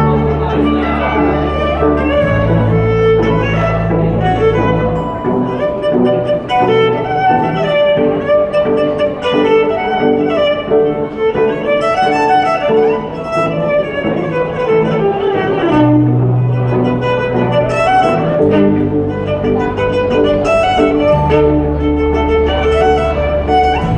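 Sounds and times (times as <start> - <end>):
cello sustained notes: 0.0 - 23.9
violin bowed melody: 0.0 - 23.9.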